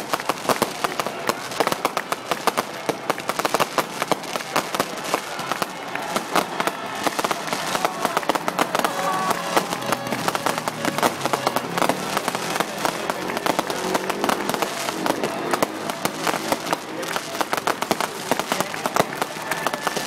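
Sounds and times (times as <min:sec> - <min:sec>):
faint voices: 0:00.0 - 0:20.0
fireworks crackling and popping: 0:00.0 - 0:20.0.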